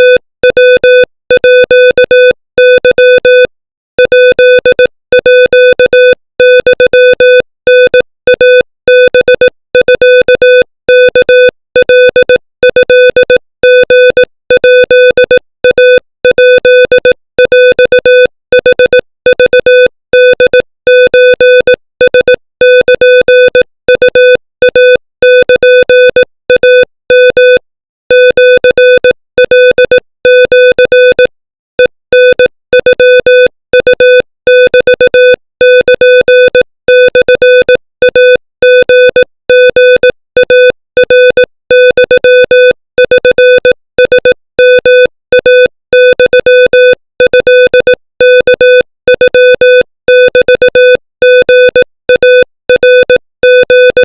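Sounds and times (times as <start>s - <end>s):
morse code electronic beeps: 0.0s - 54.0s.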